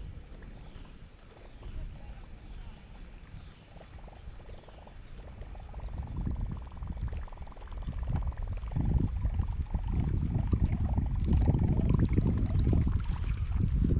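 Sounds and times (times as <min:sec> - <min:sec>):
water sloshing and gurgling: 0:00.0 - 0:13.9.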